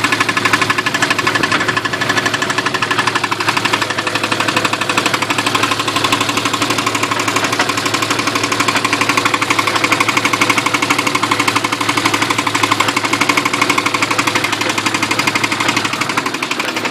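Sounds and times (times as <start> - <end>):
car engine running: 0.0 - 16.9
rapid metallic clanking in engine: 0.0 - 16.9.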